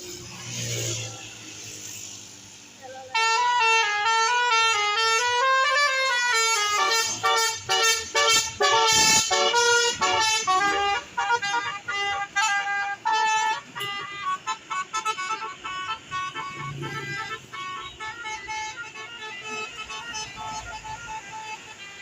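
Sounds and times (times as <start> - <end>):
musical bus horn melody: 3.0 - 22.0.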